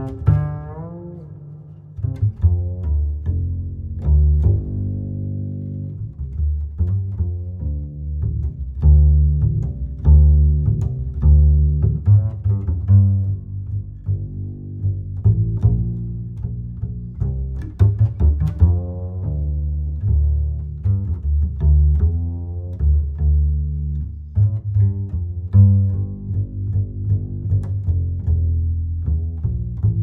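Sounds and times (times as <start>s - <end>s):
plucked and bowed string music: 0.0s - 30.0s.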